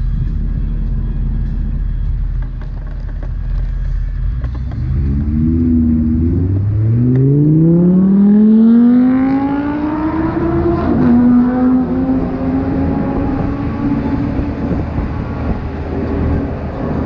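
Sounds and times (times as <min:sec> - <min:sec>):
vehicle engine accelerating: 0:00.0 - 0:17.0.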